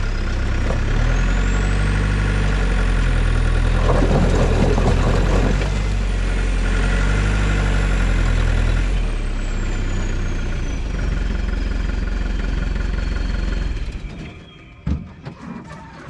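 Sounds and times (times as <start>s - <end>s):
car engine running: 0.0s - 14.7s.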